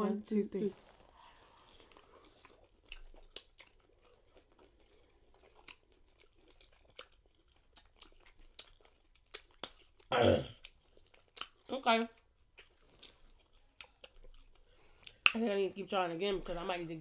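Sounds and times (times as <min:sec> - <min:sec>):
wet mouth clicks chewing: 0:01.5 - 0:15.4.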